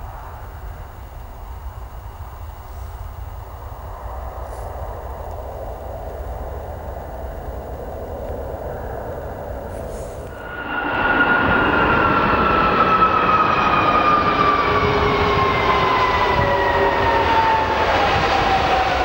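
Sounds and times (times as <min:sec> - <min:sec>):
jet engine high whine: 0:00.0 - 0:19.0
jet engines roaring: 0:00.0 - 0:19.0.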